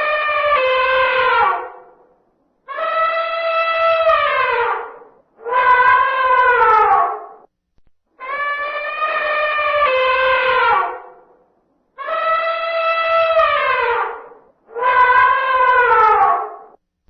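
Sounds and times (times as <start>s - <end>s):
elephant trumpeting: 0.0s - 2.0s, 2.7s - 7.5s, 8.2s - 11.3s, 12.0s - 16.8s.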